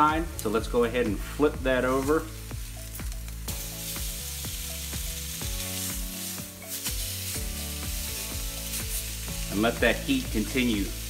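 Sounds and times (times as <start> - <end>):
steak sizzling on a grill pan: 0.0 - 11.0.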